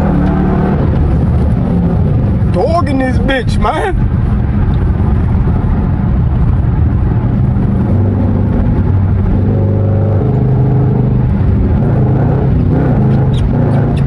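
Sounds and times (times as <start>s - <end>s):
car engine exhaust drone accelerating: 0.0s - 14.0s.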